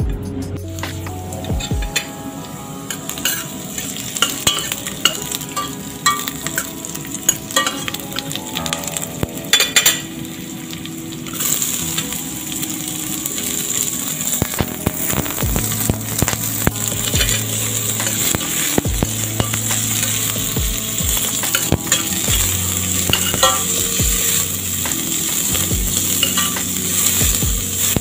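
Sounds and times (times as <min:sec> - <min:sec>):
food sizzling in oil: 0:01.6 - 0:28.0.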